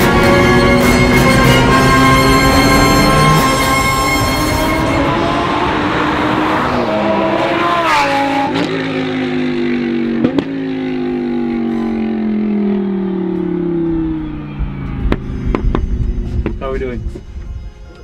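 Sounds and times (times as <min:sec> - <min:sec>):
race car engine passing by: 0:00.0 - 0:15.6.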